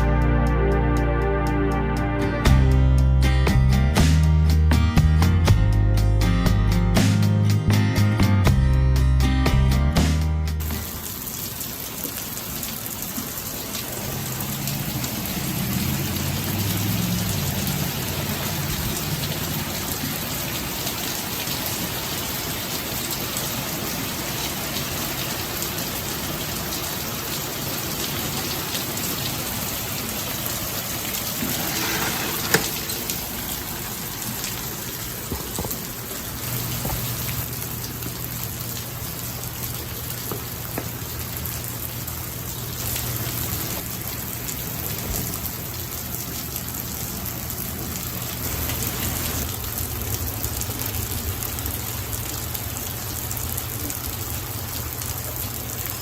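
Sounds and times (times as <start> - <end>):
rain falling: 10.6 - 56.0.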